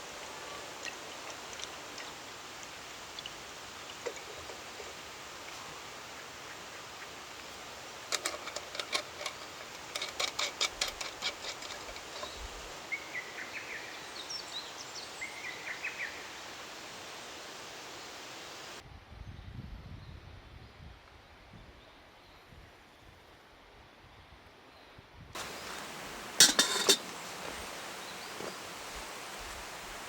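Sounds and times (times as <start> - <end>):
steady outdoor hiss: 0.0 - 30.0.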